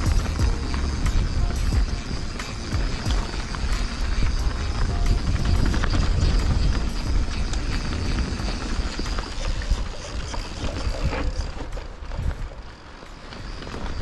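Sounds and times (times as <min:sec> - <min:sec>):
bike rattling clicks and knocks: 0:00.0 - 0:14.0
bike tyres crunching over dirt: 0:00.0 - 0:14.0
wind rumbling on microphone: 0:00.0 - 0:14.0.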